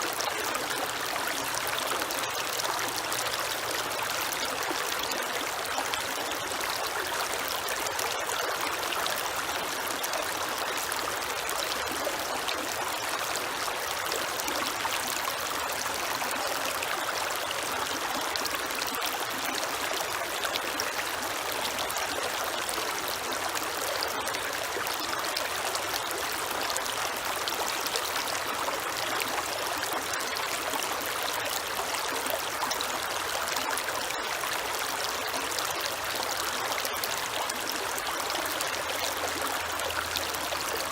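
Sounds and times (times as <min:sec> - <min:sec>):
creek flowing over stones: 0:00.0 - 0:40.9.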